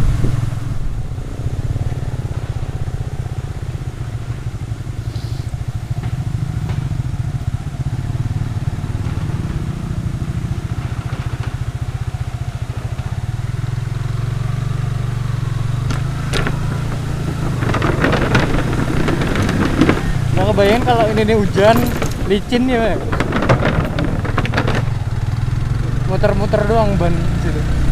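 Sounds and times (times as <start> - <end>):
motorcycle engine running: 0.0 - 27.9
sharp clatters: 1.1 - 27.5.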